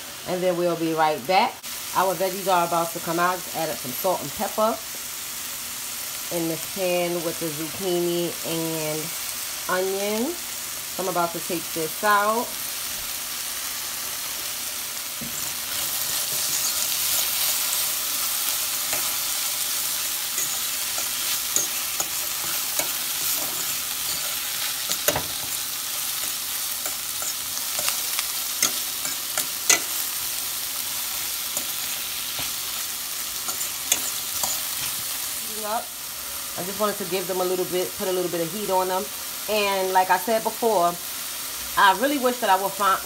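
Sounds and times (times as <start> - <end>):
vegetables sizzling in a frying pan: 0.0 - 43.0.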